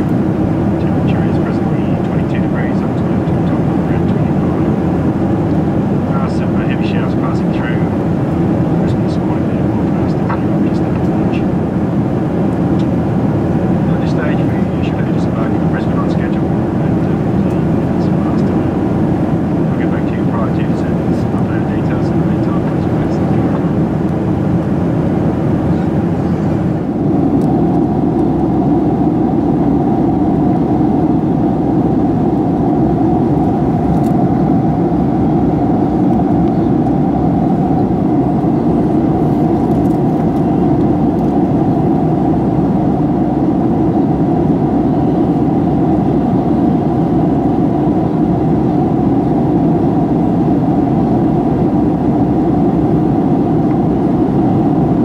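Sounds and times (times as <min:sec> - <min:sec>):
airplane cabin rushing drone: 0:00.0 - 0:55.0.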